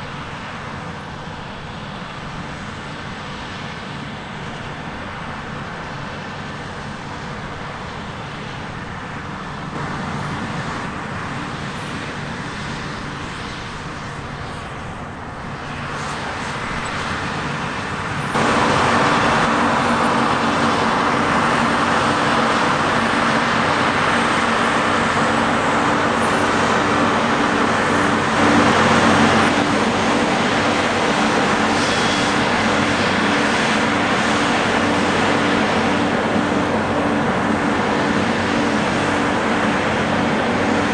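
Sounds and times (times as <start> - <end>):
diesel farm machinery running: 0.0 - 40.9.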